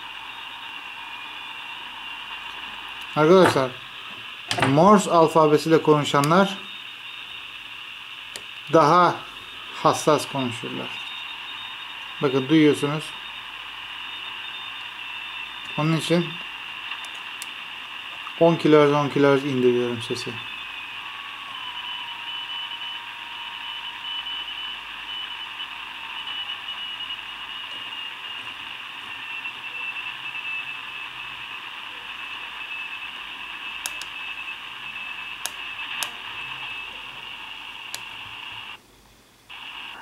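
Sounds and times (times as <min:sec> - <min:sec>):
radio band hiss: 0:00.0 - 0:38.8, 0:39.4 - 0:40.0
thin high morse whistle: 0:00.0 - 0:38.8
sharp static clicks: 0:00.0 - 0:40.0.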